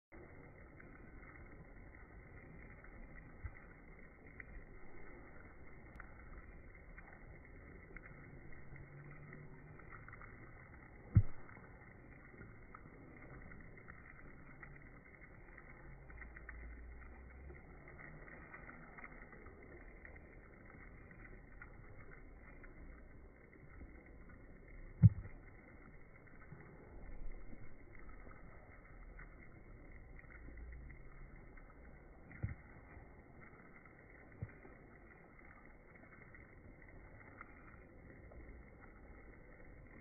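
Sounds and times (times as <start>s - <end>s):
faint outdoor hiss: 0.0s - 40.0s
wet snow ticking on roof: 0.1s - 40.0s.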